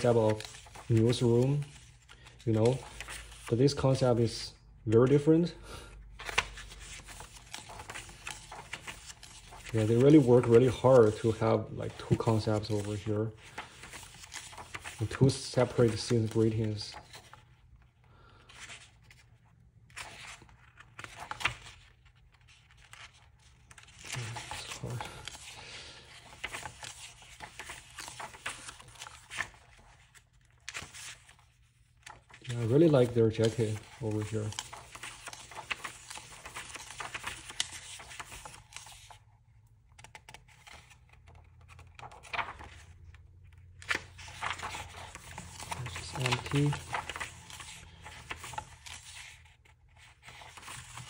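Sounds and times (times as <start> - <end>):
paper pages rustling: 0.0 - 5.2, 5.9 - 51.0.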